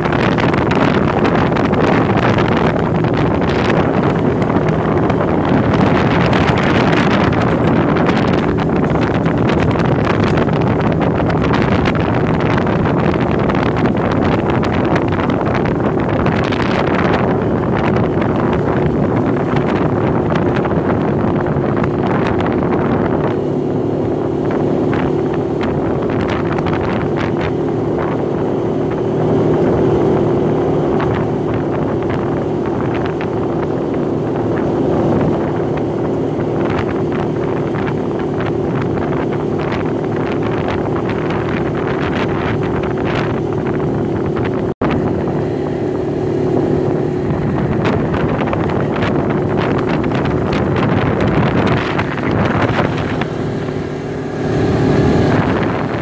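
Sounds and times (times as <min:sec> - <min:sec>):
atv engine running: 0:00.0 - 0:56.0
wind buffeting microphone: 0:00.0 - 0:56.0.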